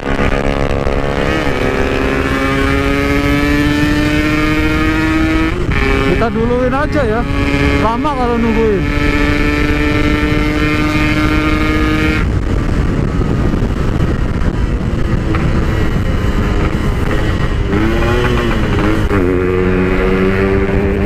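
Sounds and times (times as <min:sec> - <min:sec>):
engine revving: 0:00.0 - 0:21.0
two-stroke motorcycle engine: 0:00.0 - 0:21.0.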